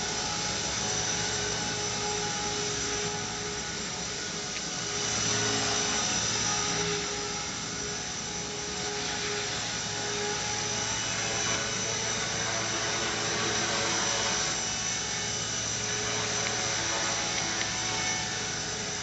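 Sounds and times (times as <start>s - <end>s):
model helicopter rotors whirring: 0.0s - 19.0s.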